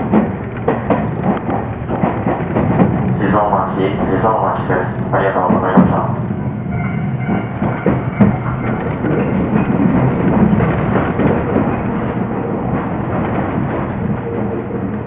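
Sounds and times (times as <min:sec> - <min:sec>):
wheels clicking over rail joints: 0:00.0 - 0:05.9, 0:07.1 - 0:15.0
electric train rumbling on track: 0:00.0 - 0:15.0.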